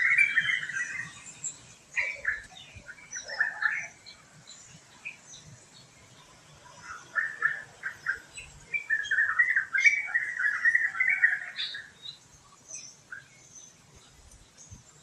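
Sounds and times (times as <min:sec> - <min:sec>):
bird chirps: 0:00.0 - 0:15.0
faint high bird chirps: 0:00.0 - 0:15.0.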